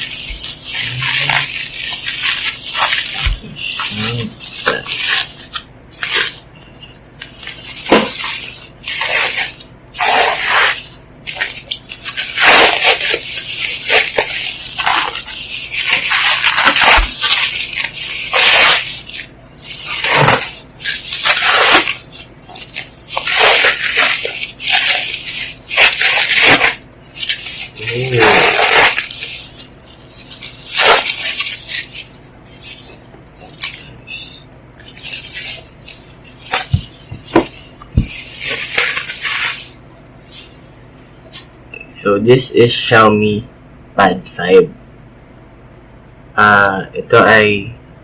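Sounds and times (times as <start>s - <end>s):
plastic wrapping crinkling: 0.0s - 41.6s.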